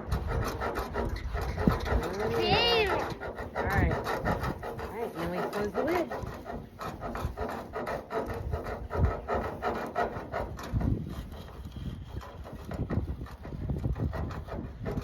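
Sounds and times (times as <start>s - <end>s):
bee smoker rubbing and scraping: 0.0s - 15.0s.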